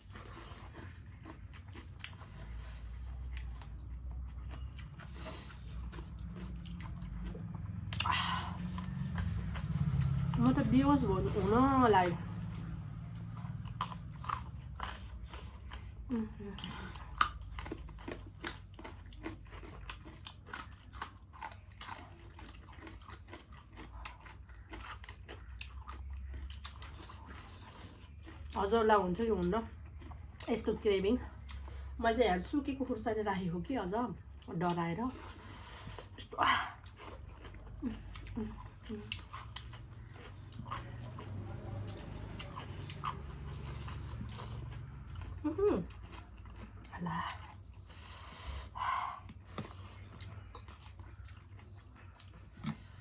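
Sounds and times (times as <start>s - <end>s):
chewing and crunching food: 0.0s - 53.0s
low steady hum: 0.0s - 53.0s.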